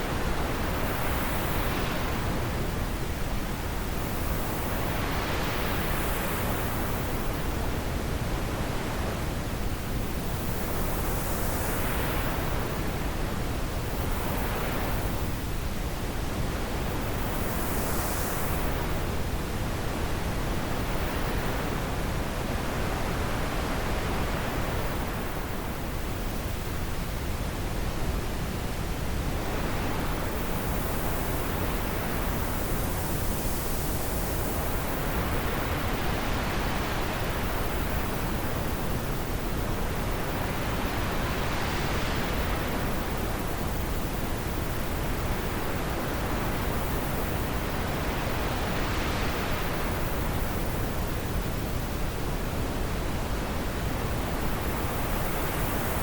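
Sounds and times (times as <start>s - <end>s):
wind blowing in gusts: 0.0s - 56.0s.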